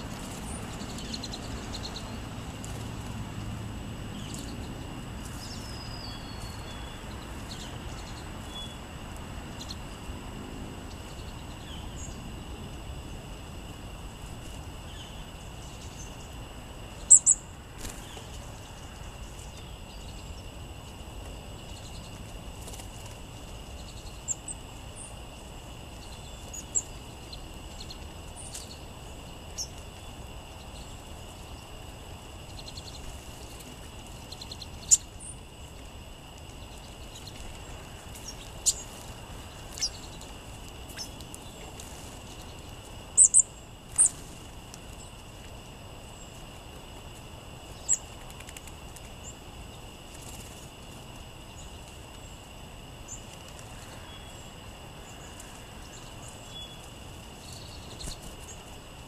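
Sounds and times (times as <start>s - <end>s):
sparrows chirping: 0.0s - 45.3s, 47.6s - 58.9s
steady high-pitched hiss: 0.0s - 59.0s.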